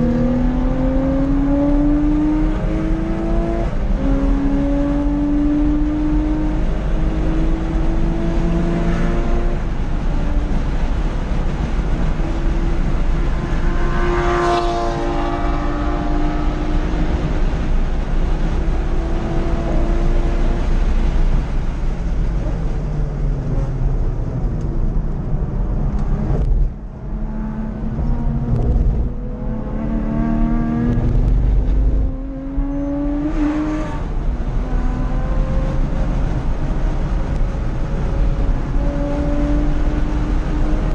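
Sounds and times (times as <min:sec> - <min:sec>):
car engine accelerating: 0:00.0 - 0:40.9
road and wind noise: 0:00.0 - 0:40.9.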